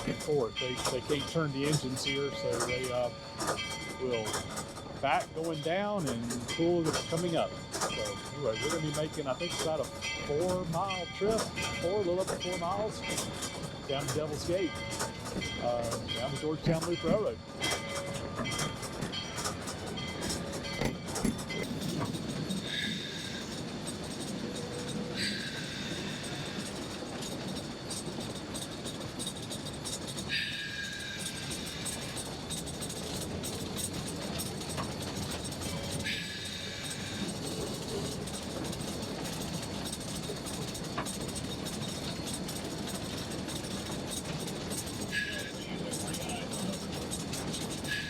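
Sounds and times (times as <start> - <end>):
high wheel squeals: 0.0 - 48.0
steam locomotive rumbling: 0.0 - 48.0.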